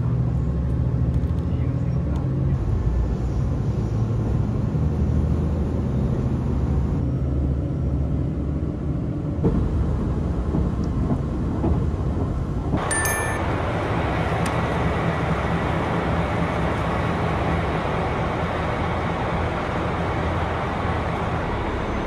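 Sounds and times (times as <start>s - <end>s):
vehicle rumbling: 0.0s - 22.0s.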